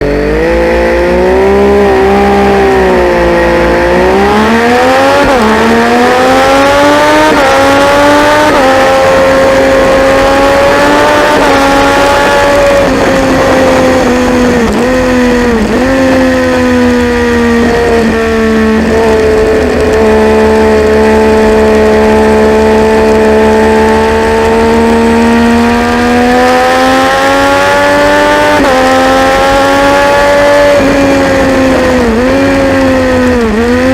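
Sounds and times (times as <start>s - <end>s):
race bike engine at high revs: 0.0s - 33.9s.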